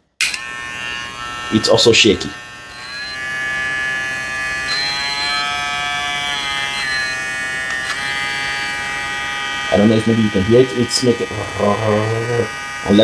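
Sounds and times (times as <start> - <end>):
hair clipper buzzing: 0.2 - 13.0.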